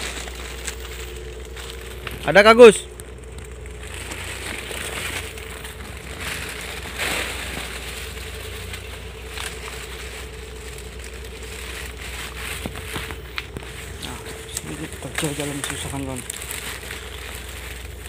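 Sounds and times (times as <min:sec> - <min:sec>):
brushing past undergrowth: 0:00.0 - 0:18.0
footsteps crunching dry leaves: 0:00.0 - 0:18.0.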